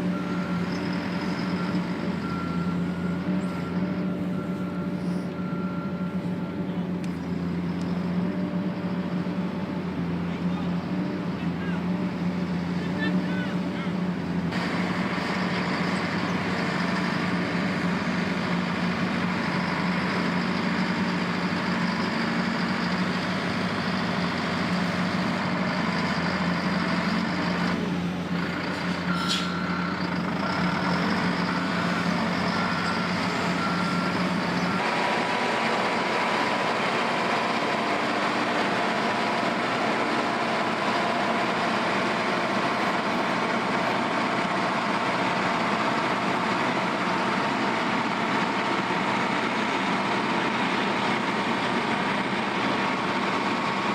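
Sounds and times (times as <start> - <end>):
diesel construction machinery running: 0.0 - 53.9.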